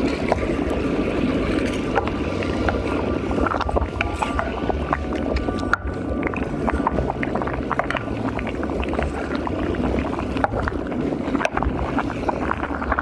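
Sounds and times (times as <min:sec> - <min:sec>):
ladle stirring spaghetti: 0:00.0 - 0:13.0
water boiling and bubbling: 0:00.0 - 0:13.0.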